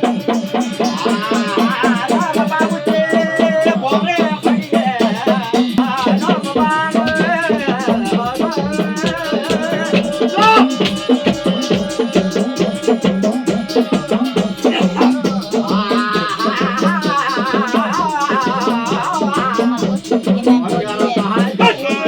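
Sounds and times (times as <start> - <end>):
hand drum beating: 0.0 - 22.0
person singing: 0.0 - 22.0.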